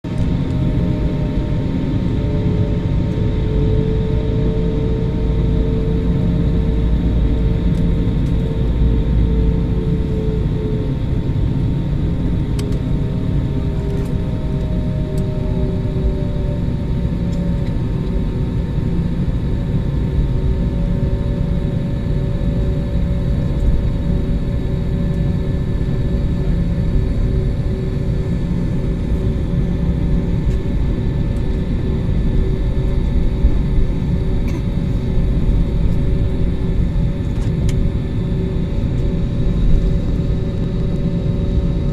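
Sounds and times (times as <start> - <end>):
jet engine rumble in cabin: 0.0 - 41.9.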